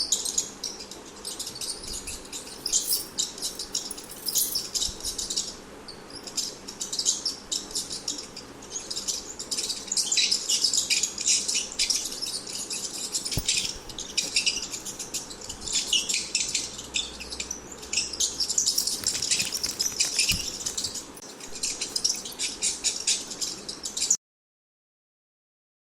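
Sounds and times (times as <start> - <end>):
rats squeaking: 1.2 - 5.4, 6.1 - 23.6.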